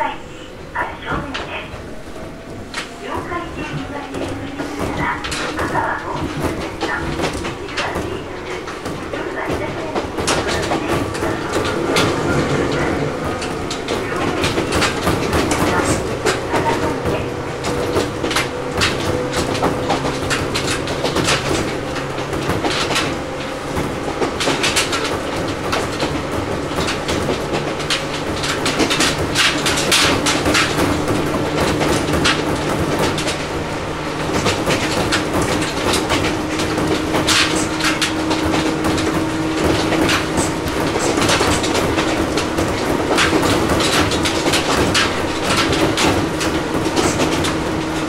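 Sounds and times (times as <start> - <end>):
train running rumble: 0.0 - 48.0
wheels clacking over rail joints: 0.7 - 48.0.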